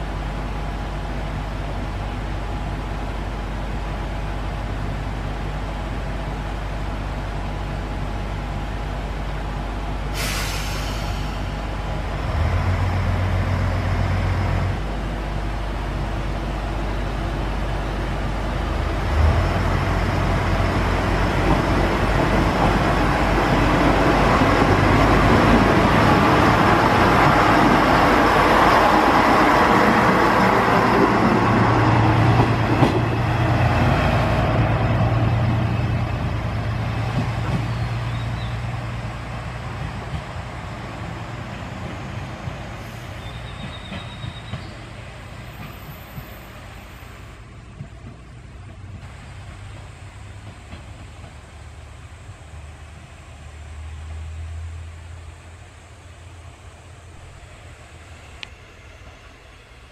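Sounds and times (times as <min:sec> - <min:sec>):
diesel railcar engine: 0:00.0 - 0:59.9.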